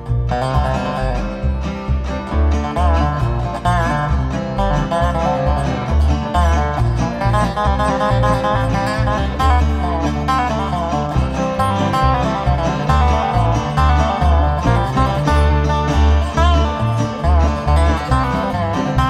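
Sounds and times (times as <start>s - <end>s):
plucked strings: 0.0s - 19.0s
pulsing bass line: 0.0s - 19.0s.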